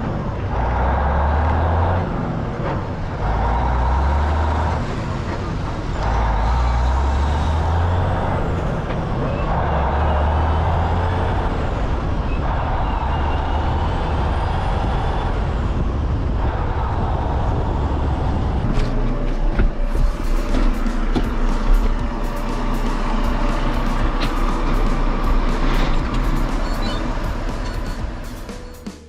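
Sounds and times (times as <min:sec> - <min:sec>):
diesel engine low drone: 0:00.0 - 0:29.0
mid-pitched machine drone: 0:02.9 - 0:29.0.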